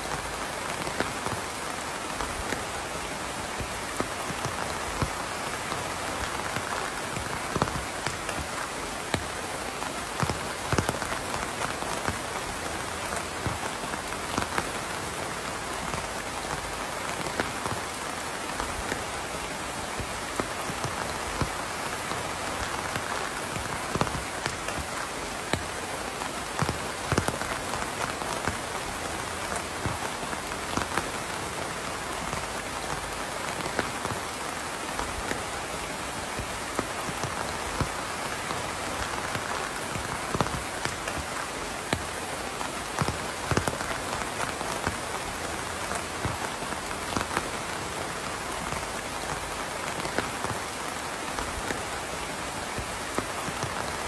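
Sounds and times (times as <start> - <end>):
rain pattering on hard surface: 0.0 - 54.0.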